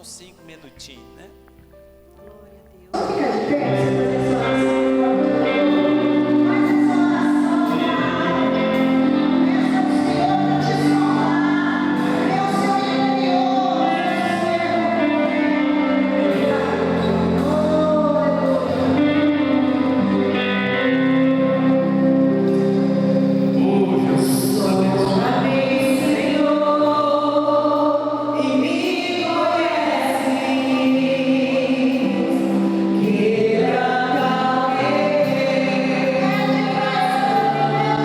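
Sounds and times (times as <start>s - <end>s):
instrumental accompaniment: 0.0s - 38.0s
women singing a hymn: 2.9s - 38.0s.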